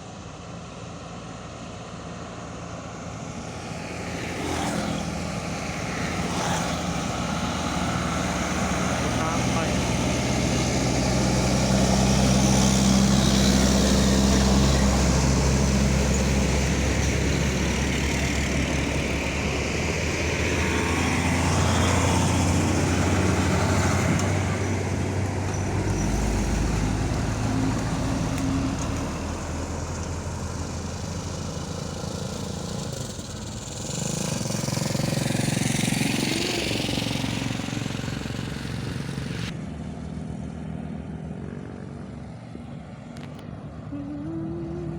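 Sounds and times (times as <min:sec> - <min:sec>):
truck engines humming: 0:00.0 - 0:44.9
vehicles passing: 0:00.0 - 0:44.9.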